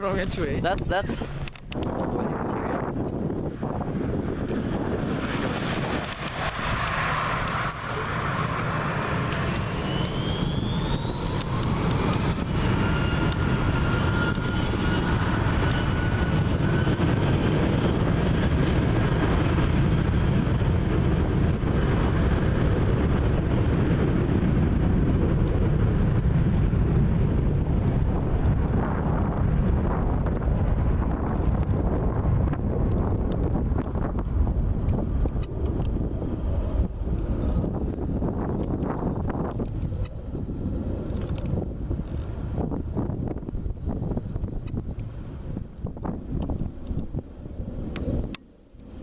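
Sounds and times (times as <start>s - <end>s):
jet engines spooling up and roaring: 0.0s - 49.0s.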